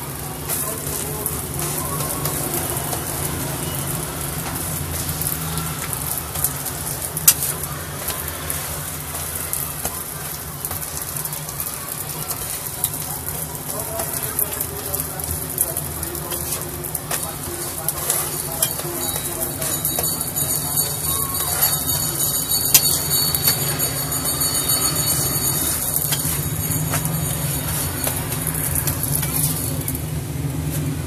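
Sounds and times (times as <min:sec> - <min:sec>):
low hum of street noise: 0:00.0 - 0:31.0
roti frying in oil: 0:00.0 - 0:31.0
metal spatula scraping griddle: 0:00.4 - 0:30.0.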